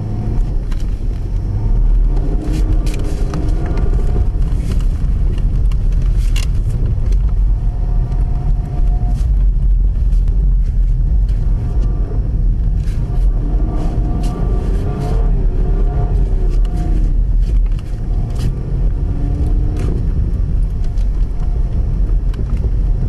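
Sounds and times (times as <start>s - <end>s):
car engine revving: 0.0s - 23.0s
heavy low rumble: 0.0s - 23.0s.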